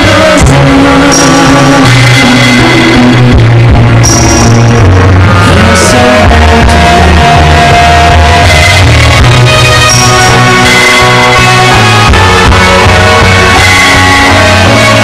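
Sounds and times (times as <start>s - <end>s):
rock backing music: 0.0s - 15.0s.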